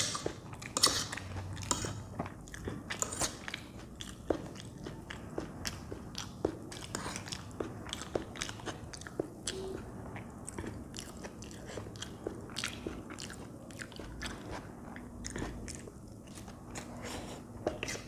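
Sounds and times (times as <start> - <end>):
chewing and slurping noodles: 0.0 - 18.0.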